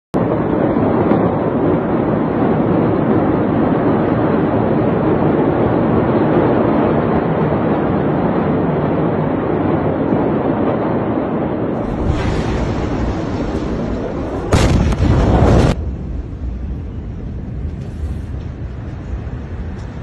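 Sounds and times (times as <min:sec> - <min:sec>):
wind buffeting microphone: 0:00.2 - 0:20.0.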